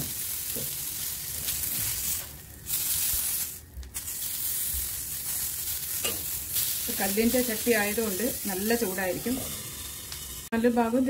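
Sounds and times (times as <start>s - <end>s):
metal spatula turning food: 0.0s - 10.5s
meat sizzling on a griddle: 0.0s - 11.0s.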